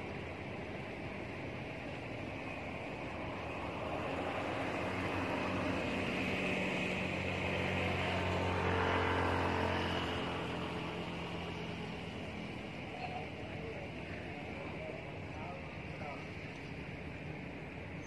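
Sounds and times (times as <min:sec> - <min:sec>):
passing vehicle engine drone: 0:00.0 - 0:18.0.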